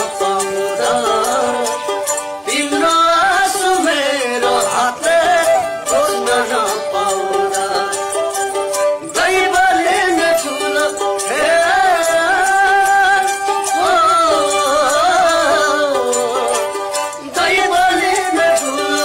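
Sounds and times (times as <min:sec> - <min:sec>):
folk song singing voice: 0:00.0 - 0:19.0
instrumental accompaniment: 0:00.0 - 0:19.0.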